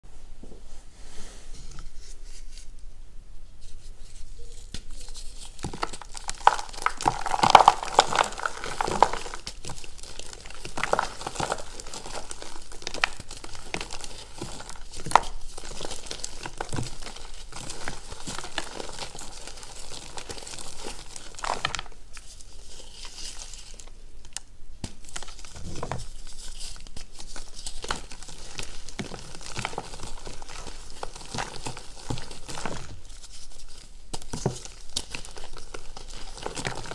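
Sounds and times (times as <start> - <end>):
chalk block crunching and crumbling: 3.6 - 23.9, 24.8 - 36.9.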